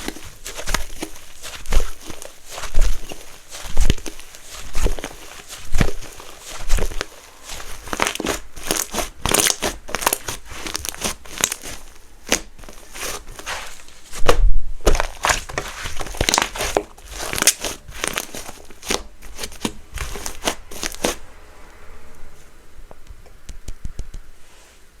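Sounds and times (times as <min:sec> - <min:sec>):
slime squished by hand: 0:00.0 - 0:21.2.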